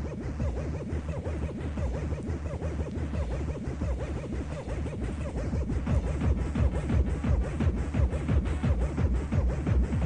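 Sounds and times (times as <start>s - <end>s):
fast electronic dance music: 0.0s - 10.0s.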